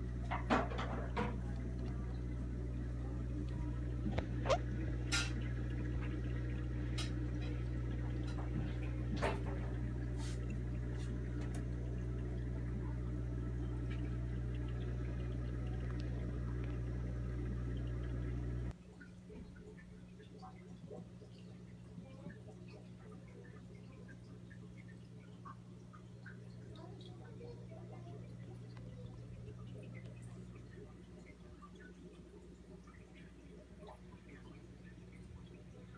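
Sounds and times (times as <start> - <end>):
aquarium equipment humming: 0.0 - 35.9.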